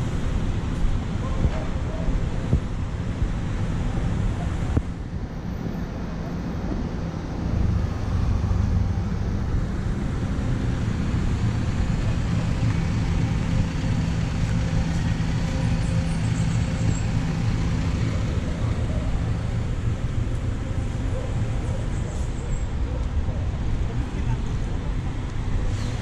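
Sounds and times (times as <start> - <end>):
bus engine humming: 0.0 - 26.0
city street traffic: 0.0 - 26.0.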